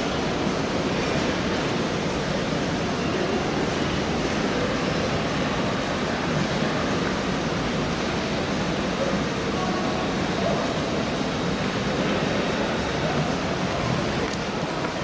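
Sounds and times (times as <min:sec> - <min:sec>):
fountain water rushing: 0:00.0 - 0:15.0.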